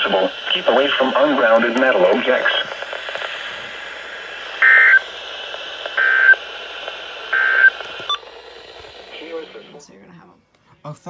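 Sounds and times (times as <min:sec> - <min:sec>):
radio hiss: 0:00.0 - 0:10.3.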